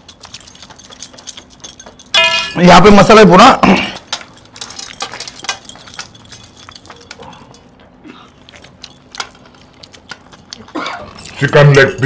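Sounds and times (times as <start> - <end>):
metal clinks on steel plates: 0.0 - 12.0.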